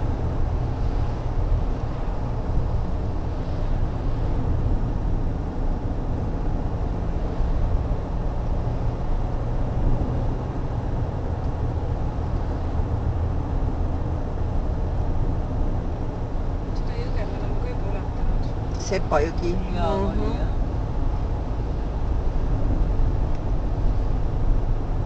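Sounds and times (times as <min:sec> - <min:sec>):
car rumble from inside cabin: 0:00.0 - 0:25.0.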